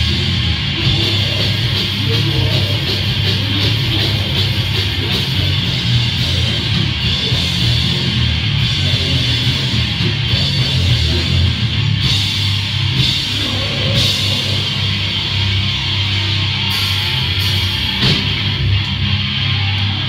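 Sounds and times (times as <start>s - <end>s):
drum kit with crashing cymbals: 0.0s - 19.8s
bass guitar: 0.0s - 20.0s
distorted electric guitar: 0.0s - 20.0s.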